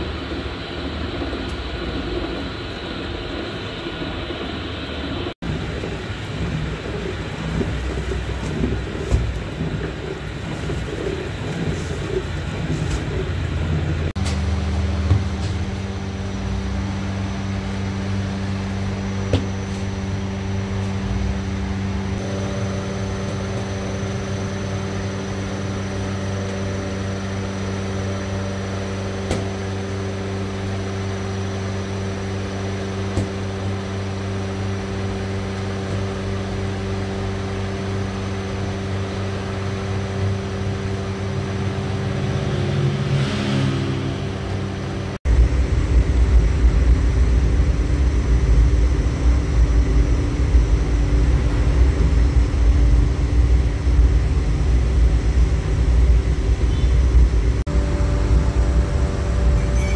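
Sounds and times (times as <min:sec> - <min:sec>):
machinery motor hum: 0:00.0 - 0:59.9.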